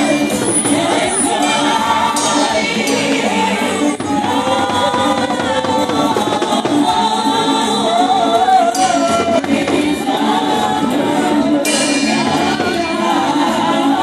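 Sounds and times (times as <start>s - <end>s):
lead singer through loudspeakers: 0.0s - 14.0s
voices singing along: 0.0s - 14.0s.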